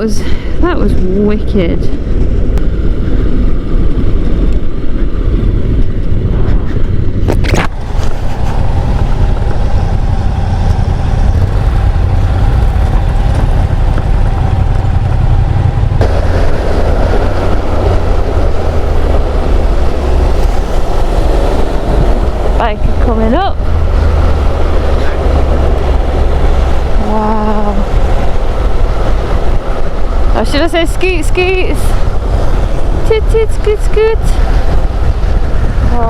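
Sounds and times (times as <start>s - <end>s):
wind rush on microphone: 0.0s - 36.0s
motorcycle engine running: 2.6s - 36.0s.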